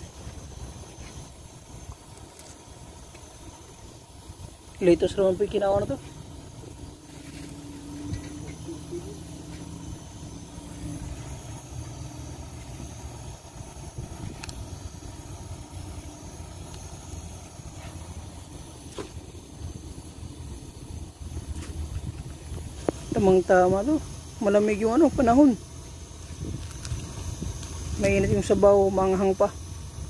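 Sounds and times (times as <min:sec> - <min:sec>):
gas burner rumbling with hiss: 0:00.0 - 0:30.0.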